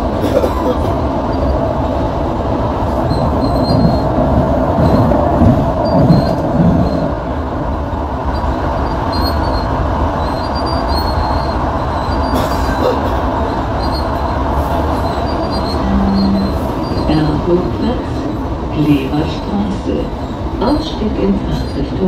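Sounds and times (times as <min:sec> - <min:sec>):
light rail wheels rumbling: 0:00.0 - 0:22.0.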